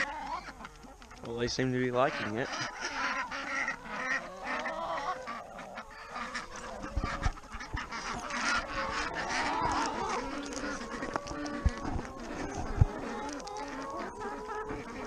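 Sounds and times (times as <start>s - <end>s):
chickens clucking: 0.0s - 15.0s
ducks quacking: 0.0s - 15.0s.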